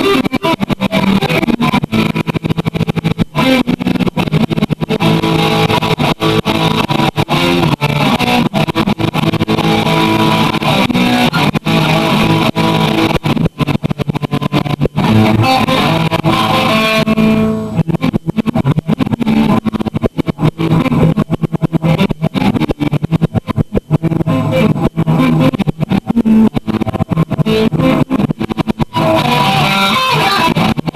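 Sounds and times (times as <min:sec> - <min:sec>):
electric guitar jamming: 0:00.0 - 0:30.9.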